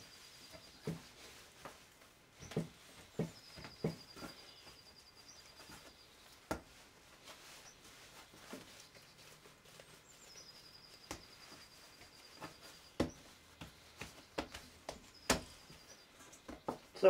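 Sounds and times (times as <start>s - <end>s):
soft handling knocks: 0.5s - 17.0s.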